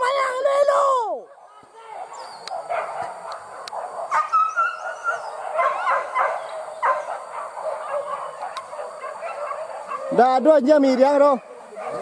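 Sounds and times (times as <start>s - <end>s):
dogs yelping and barking: 0.7s - 12.0s.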